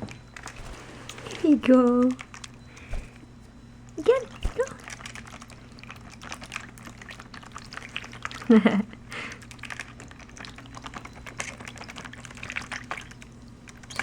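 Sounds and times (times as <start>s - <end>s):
faint low hum: 0.0s - 14.0s
bird splashing in water dish: 0.4s - 1.6s, 2.2s - 3.2s, 4.0s - 8.5s, 9.4s - 14.0s.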